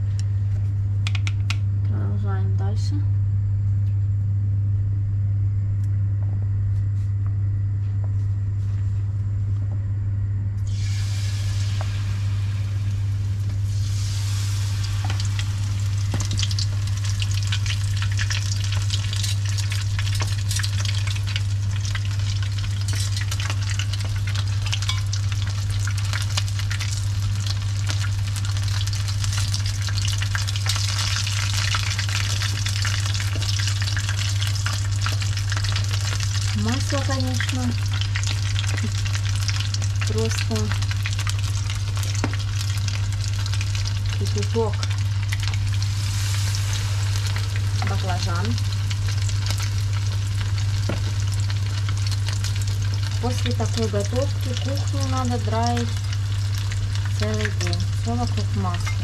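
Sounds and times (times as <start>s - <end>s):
low hum: 0.0s - 59.0s
tempura sizzling in hot oil: 10.6s - 59.0s.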